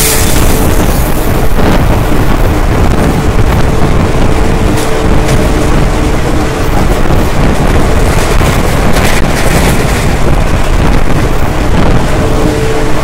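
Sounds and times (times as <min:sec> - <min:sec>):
train rumbling on track: 0:00.0 - 0:13.0
wind buffeting microphone: 0:00.0 - 0:13.0.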